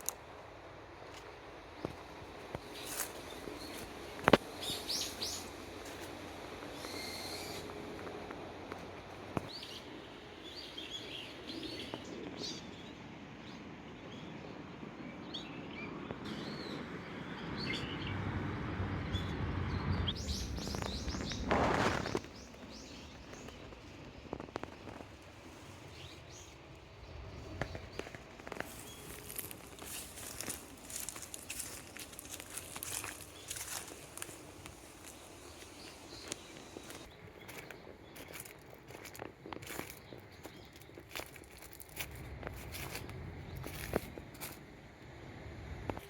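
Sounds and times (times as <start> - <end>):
wild birds chirping: 1.0 - 44.5.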